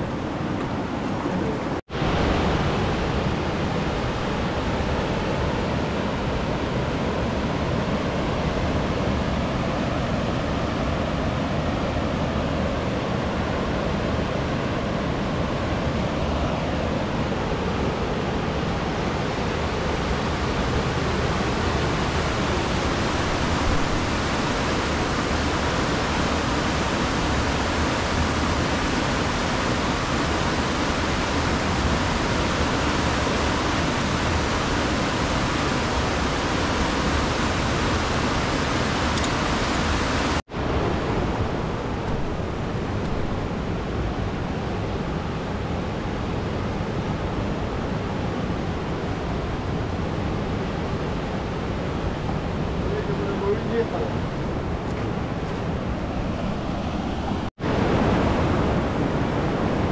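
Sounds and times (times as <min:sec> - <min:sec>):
river rushing roar: 0:00.0 - 0:59.9.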